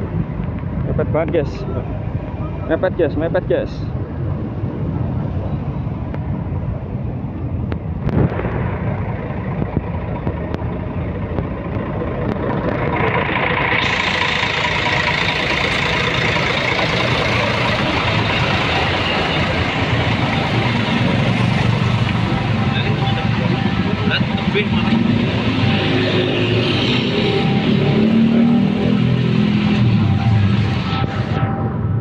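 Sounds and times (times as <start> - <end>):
road and wind noise: 0.0 - 32.0
vehicle engines in traffic: 0.0 - 32.0.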